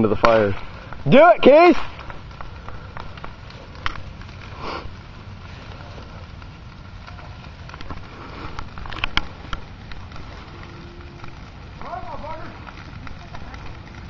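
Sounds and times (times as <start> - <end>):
bonfire crackling and popping: 0.0 - 14.0
fire low rush: 0.0 - 14.0.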